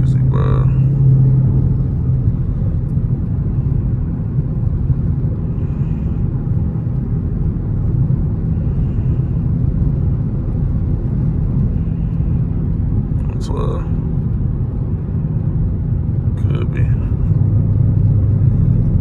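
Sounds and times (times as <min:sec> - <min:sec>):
car engine rumbling: 0:00.0 - 0:19.0
road noise: 0:00.0 - 0:19.0.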